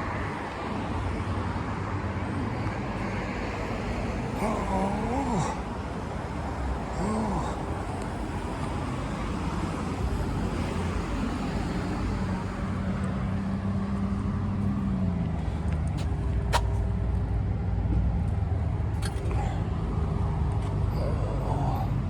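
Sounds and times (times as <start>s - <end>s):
road vehicle low rumble: 0.0s - 22.0s.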